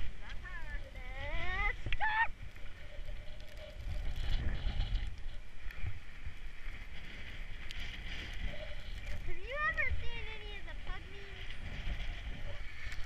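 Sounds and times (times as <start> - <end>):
skis sliding over snow: 0.0 - 13.0
wind rumble on microphone: 0.0 - 13.0.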